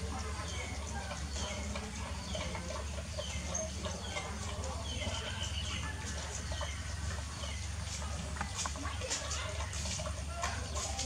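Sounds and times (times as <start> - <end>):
birds chirping: 0.0 - 11.0
dogs eating from metal pans: 0.0 - 11.0.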